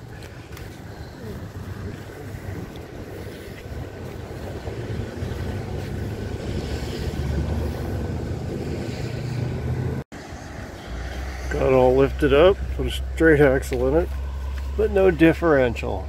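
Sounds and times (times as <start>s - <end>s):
motor rumbling: 0.0s - 16.0s
outdoor background noise: 0.0s - 16.0s.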